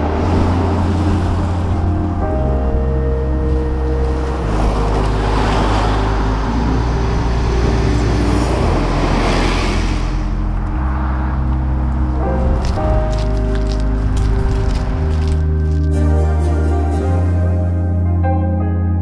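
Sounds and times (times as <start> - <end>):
road traffic passing: 0.0 - 18.2
low music chords: 0.0 - 19.0.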